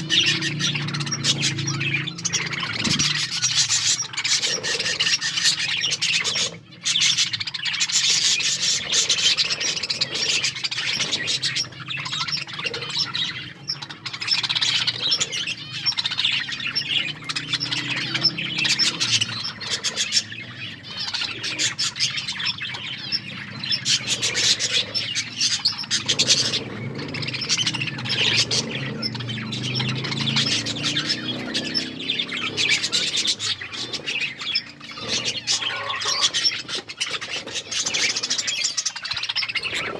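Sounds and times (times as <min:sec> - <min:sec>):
budgerigar squawks: 0:00.0 - 0:39.9
budgerigars chattering and chirping: 0:00.0 - 0:39.9.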